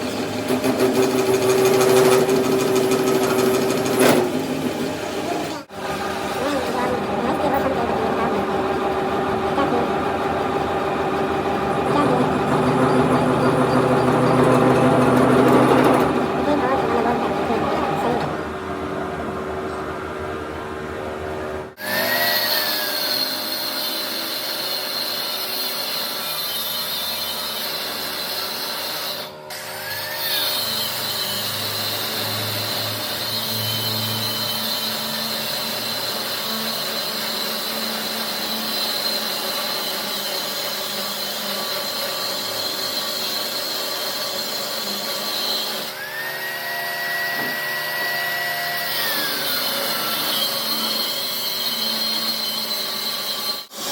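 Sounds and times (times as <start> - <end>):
electric power tool whining: 0.0 - 18.5, 29.0 - 53.9.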